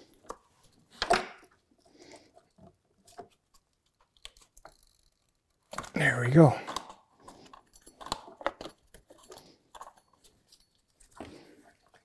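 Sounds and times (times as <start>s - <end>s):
small clicks and rustles: 0.0s - 6.0s, 6.6s - 12.0s.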